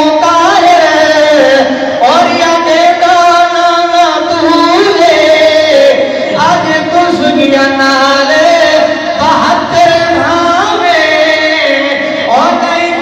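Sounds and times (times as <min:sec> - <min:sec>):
men chanting melodically: 0:00.0 - 0:13.0.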